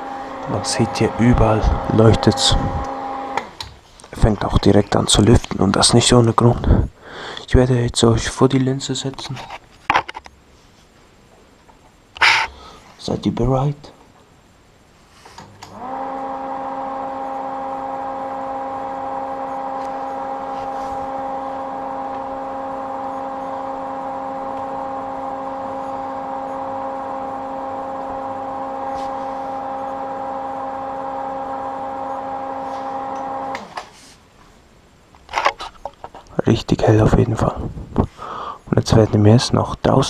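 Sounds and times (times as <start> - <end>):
projector cooling fan hum: 0.0 - 40.0.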